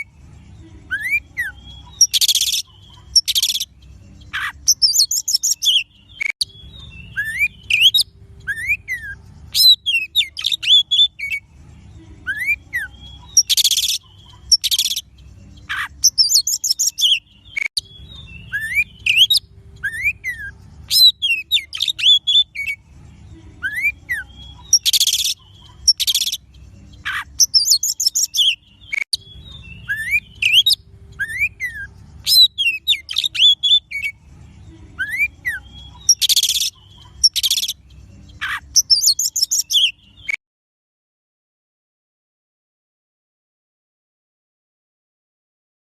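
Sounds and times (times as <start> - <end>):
songbird whistling song: 0.0 - 40.4.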